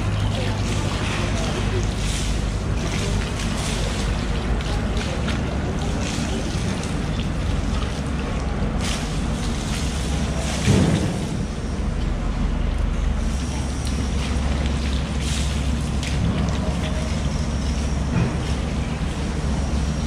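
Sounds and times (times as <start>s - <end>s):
steady low rumble: 0.0s - 20.0s
water splashing on fish: 0.0s - 20.0s.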